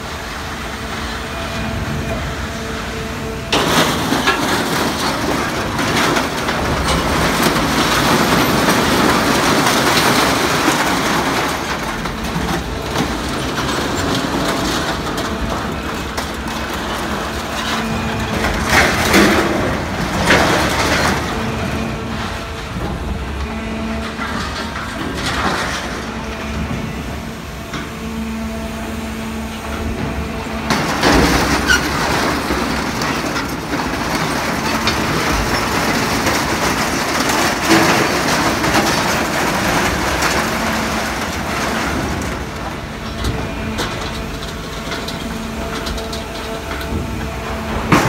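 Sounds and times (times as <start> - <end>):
crane drive hum: 0.0 - 48.0
steel scrap clanking and scraping: 0.6 - 48.0.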